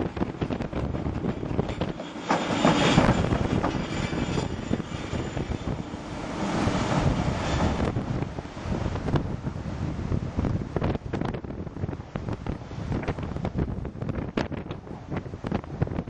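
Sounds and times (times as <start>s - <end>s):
broad rushing sound: 0.0s - 16.0s
wind buffeting microphone: 0.0s - 16.0s.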